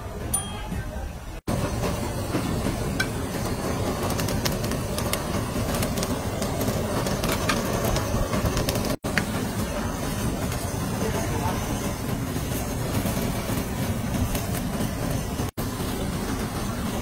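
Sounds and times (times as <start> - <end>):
blowtorch flame hissing: 1.4 - 17.0.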